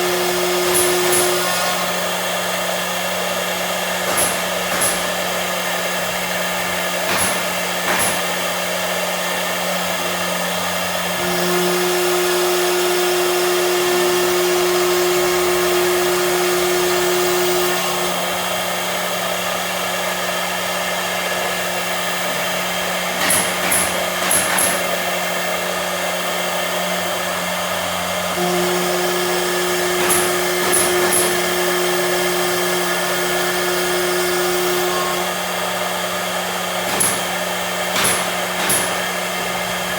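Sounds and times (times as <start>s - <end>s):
machine whirring and humming: 0.0s - 39.9s.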